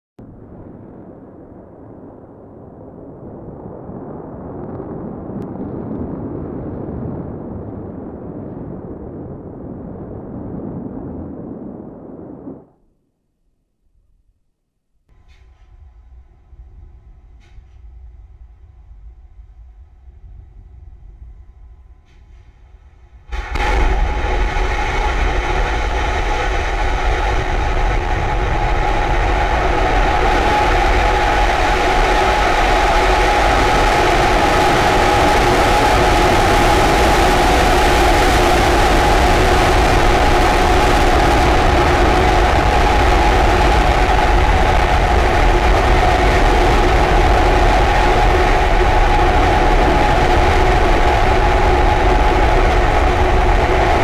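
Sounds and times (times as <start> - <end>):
rocket engine low rumble: 0.2 - 13.0, 15.1 - 54.0.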